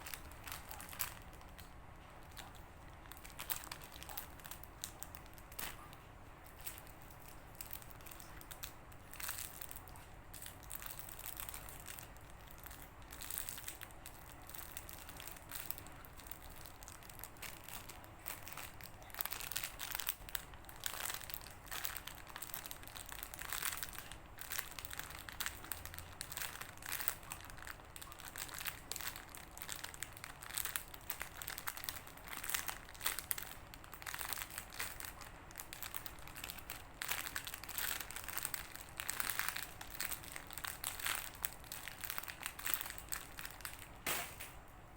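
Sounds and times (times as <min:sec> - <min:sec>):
foam toys squishing and crinkling: 0:00.0 - 0:44.4.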